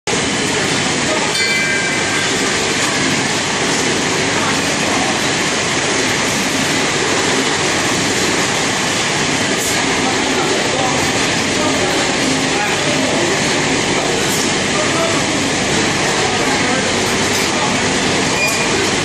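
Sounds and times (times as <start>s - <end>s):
factory machinery: 0.1s - 19.0s
pallet rolling on conveyor: 0.1s - 19.0s
roller conveyor running: 0.1s - 19.0s.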